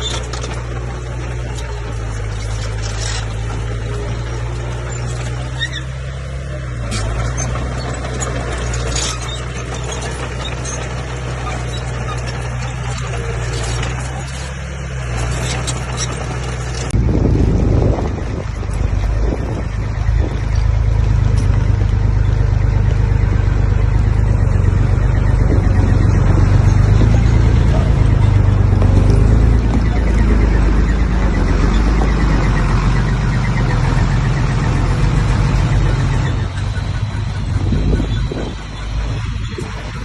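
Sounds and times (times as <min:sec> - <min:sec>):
heavy diesel engine under load: 0:00.0 - 0:40.0.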